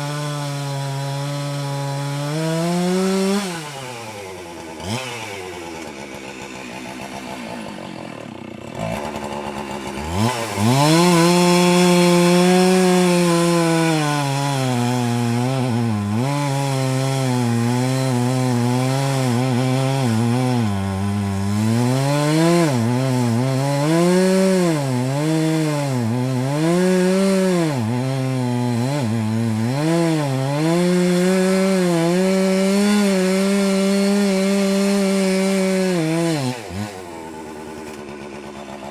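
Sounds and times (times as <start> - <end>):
chainsaw cutting log: 0.0 - 38.9
chainsaw revving: 0.0 - 38.9.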